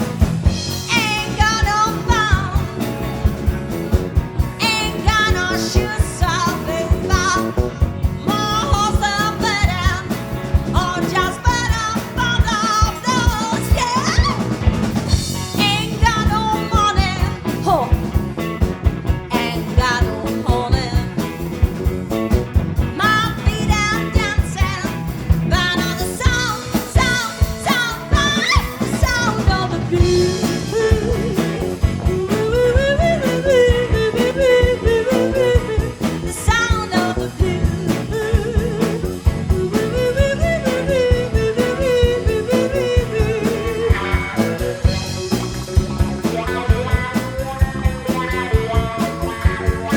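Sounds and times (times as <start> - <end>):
bending lead guitar melody: 0.0 - 49.9
drums steady beat: 0.0 - 49.9
live blues band playing: 0.0 - 49.9.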